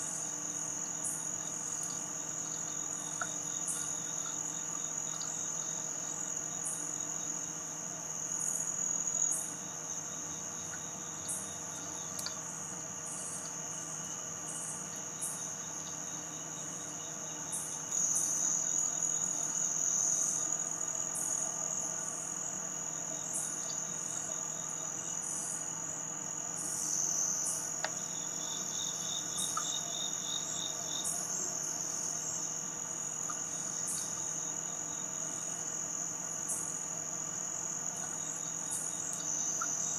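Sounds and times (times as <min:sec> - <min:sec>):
crickets and insects chorus: 0:00.0 - 0:39.9.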